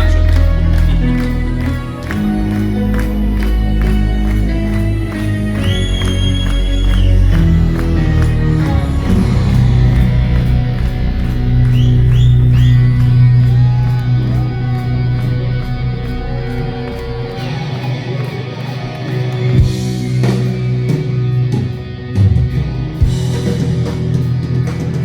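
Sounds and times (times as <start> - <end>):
live band with guitar: 0.0 - 25.0.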